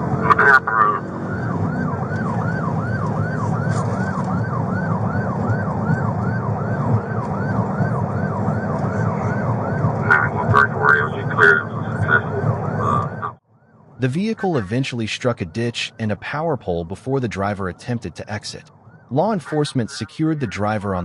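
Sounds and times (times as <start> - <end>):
police siren yelping: 0.0 - 15.0, 17.5 - 21.0
car engine and road noise: 0.0 - 21.0.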